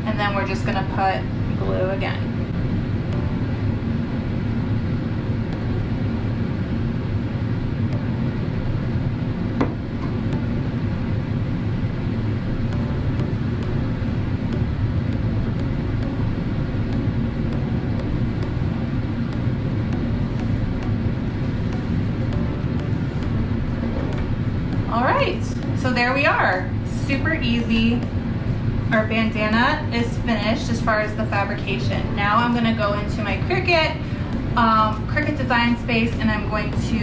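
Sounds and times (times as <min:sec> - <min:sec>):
low rumbling background noise: 0:00.0 - 0:37.0.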